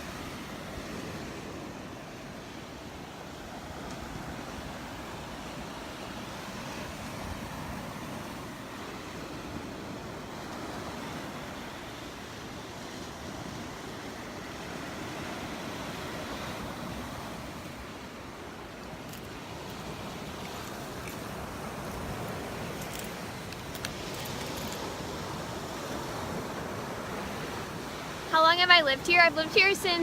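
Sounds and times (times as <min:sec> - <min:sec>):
waves washing onto beach: 0:00.0 - 0:30.0.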